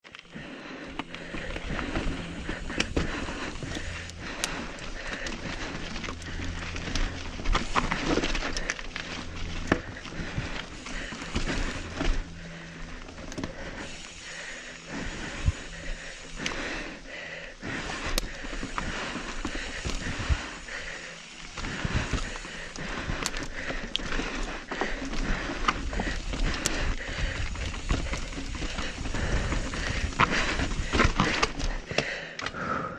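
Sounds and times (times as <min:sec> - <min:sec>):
heavy breathing: 0:00.0 - 0:32.9
steady rushing noise: 0:00.1 - 0:32.0
steady low hum: 0:00.1 - 0:32.9
rattling and knocking over rocky trail: 0:00.8 - 0:17.0, 0:17.7 - 0:32.2.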